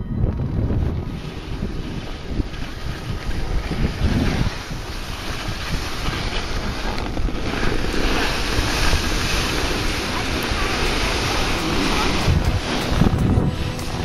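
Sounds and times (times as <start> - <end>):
wind rumbling on microphone: 0.0 - 14.0
skis sliding on snow: 1.0 - 14.0.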